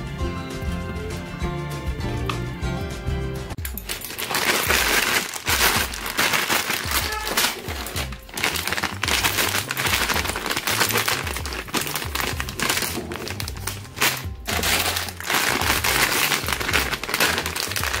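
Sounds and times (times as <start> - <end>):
background music with bass line: 0.0 - 18.0
plastic packets crinkling: 3.6 - 18.0.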